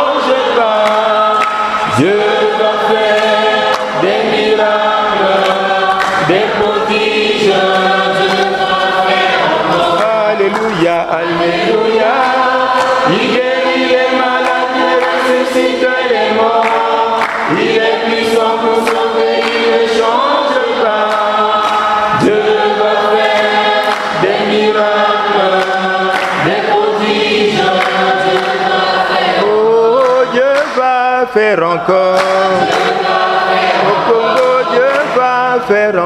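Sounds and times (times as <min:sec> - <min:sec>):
choir singing a praise song: 0:00.0 - 0:36.0.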